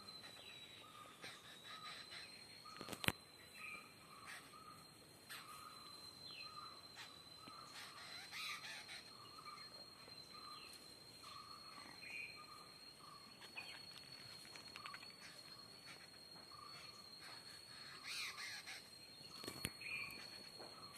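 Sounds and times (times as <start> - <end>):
birds chirping faintly: 0.0 - 20.9
steady high-pitched whine: 0.0 - 20.9.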